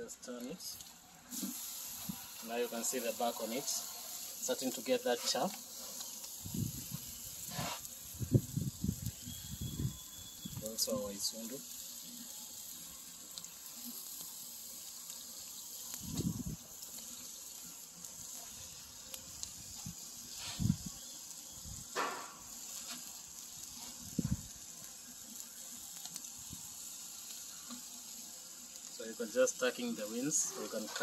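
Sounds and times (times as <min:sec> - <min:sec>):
chicken sizzling on grill: 0:00.0 - 0:31.0.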